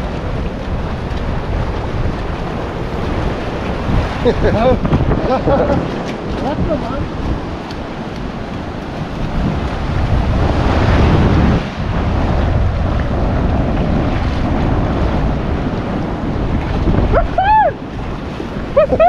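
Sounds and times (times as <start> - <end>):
surf washing on shore: 0.0 - 19.0
wind buffeting microphone: 0.0 - 19.0.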